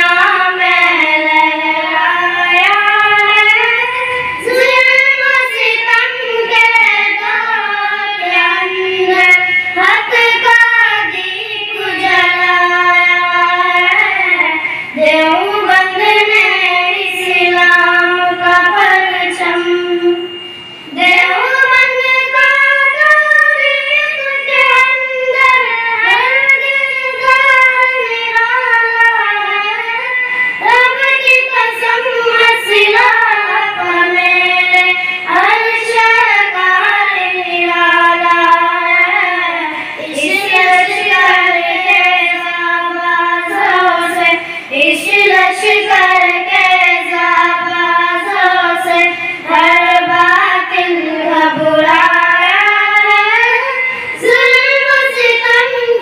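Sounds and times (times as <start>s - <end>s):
girls singing unaccompanied: 0.0s - 56.0s.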